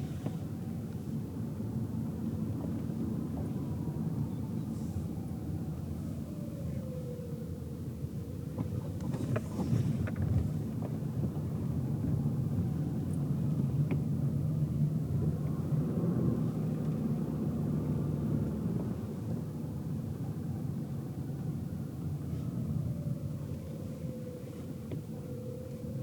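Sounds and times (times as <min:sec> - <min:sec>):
car engine hum: 0:00.0 - 0:26.0
road rumble: 0:00.0 - 0:26.0.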